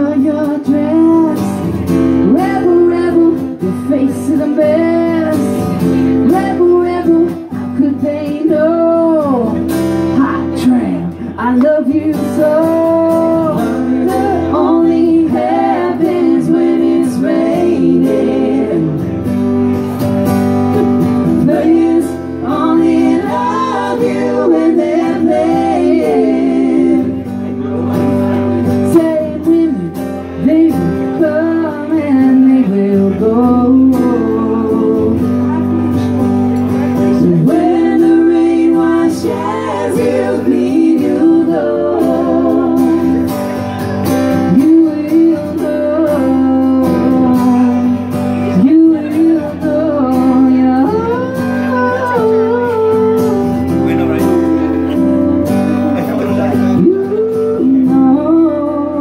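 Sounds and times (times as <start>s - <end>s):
person singing: 0.0s - 19.2s, 20.7s - 27.3s, 28.7s - 36.2s, 37.0s - 43.5s, 44.4s - 59.0s
guitar: 0.0s - 59.0s.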